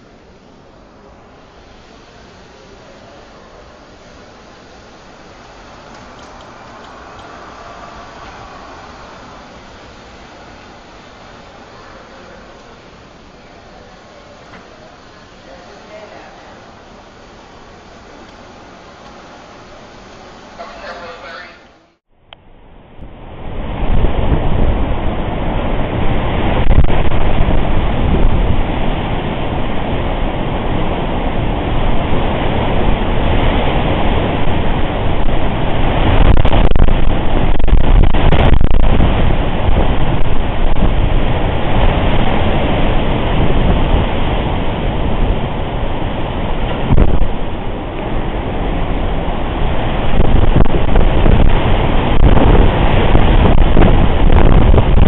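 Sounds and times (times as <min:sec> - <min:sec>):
wind buffeting microphone: 0:00.0 - 0:20.6, 0:22.8 - 0:55.0.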